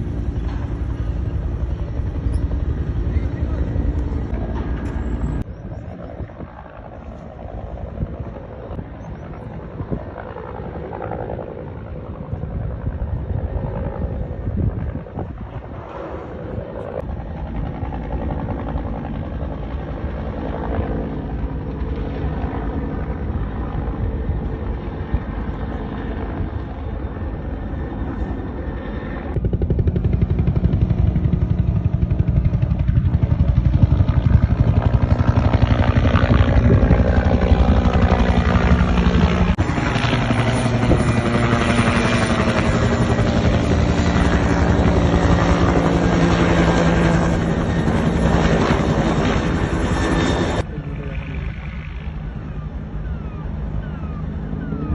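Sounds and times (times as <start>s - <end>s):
turbine whine: 0.0s - 18.8s, 23.0s - 54.9s
helicopter rotor chop: 0.0s - 54.9s.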